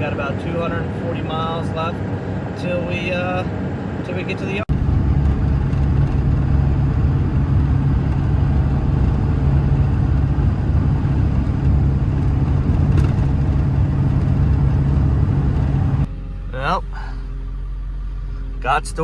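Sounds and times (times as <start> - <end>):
truck engine and road noise drone: 0.0 - 19.0.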